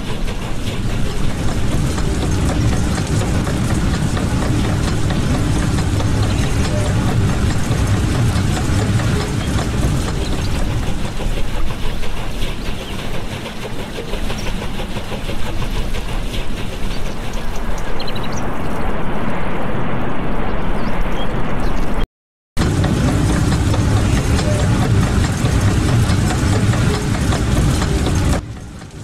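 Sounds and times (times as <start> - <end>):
water rushing onto a waterwheel: 0.0 - 18.2, 22.6 - 29.0.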